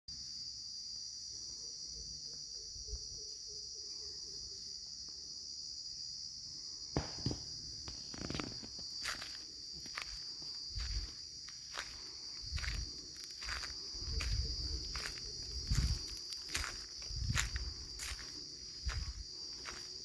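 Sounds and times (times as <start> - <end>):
high-pitched insect chorus: 0.1 - 20.0.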